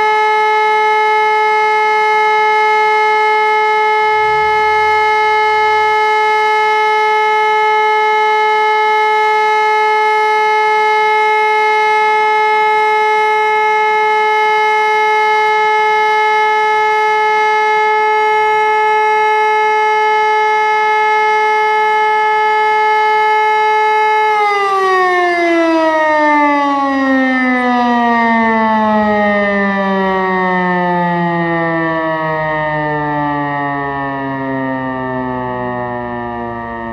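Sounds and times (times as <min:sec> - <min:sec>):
civil defence siren steady tone: 0:00.0 - 0:36.9.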